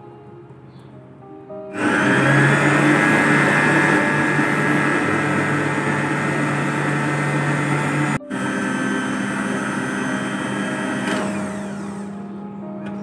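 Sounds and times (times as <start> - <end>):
stand mixer motor whining: 1.8 - 12.3.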